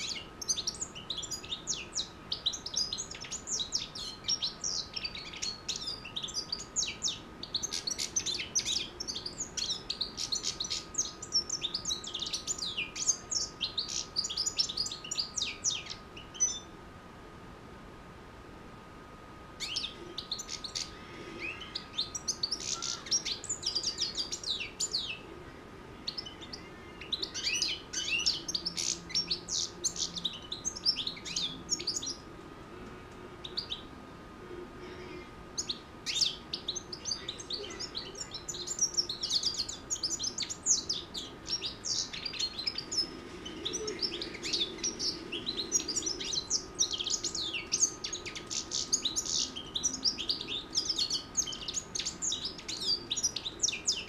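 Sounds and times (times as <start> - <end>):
goldfinch twittering song: 0.0 - 16.7, 19.6 - 25.2, 26.0 - 32.2, 35.1 - 54.0
faint high whine: 0.0 - 54.0.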